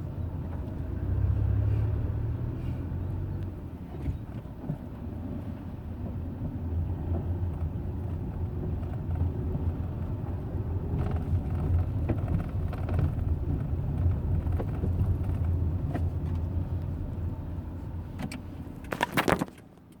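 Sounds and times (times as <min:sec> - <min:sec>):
car engine low rough drone: 0:00.0 - 0:19.0.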